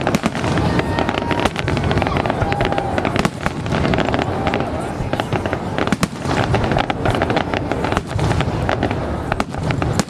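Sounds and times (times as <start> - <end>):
fireworks cracks and bangs: 0.0 - 10.0.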